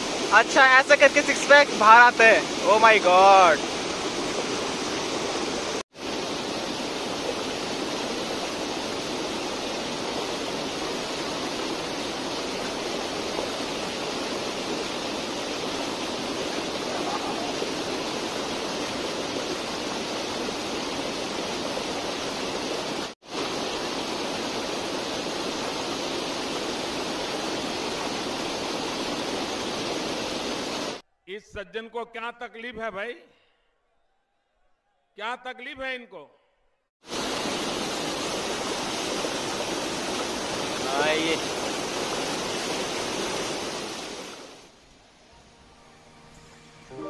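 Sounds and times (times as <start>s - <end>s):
rocky mountain stream rushing: 0.0s - 31.0s, 37.0s - 45.0s.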